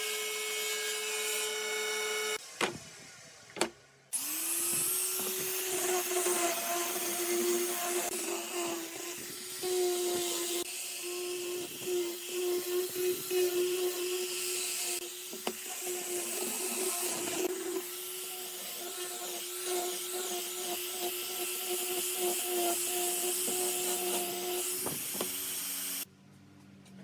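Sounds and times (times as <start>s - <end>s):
power tool motor on wood: 4.2s - 26.1s.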